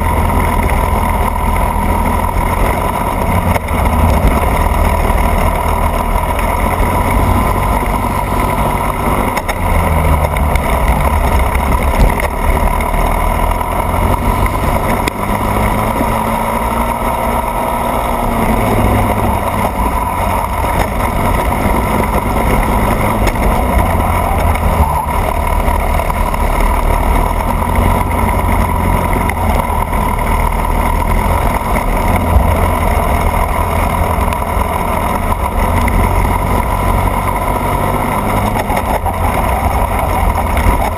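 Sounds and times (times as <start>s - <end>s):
kart engine running: 0.0s - 40.9s.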